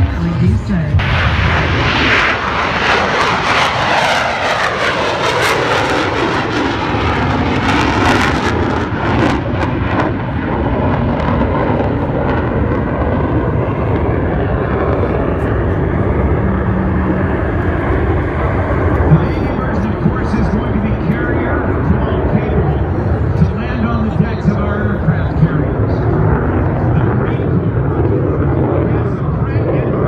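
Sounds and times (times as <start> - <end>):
plane flying past: 0.0 - 30.0.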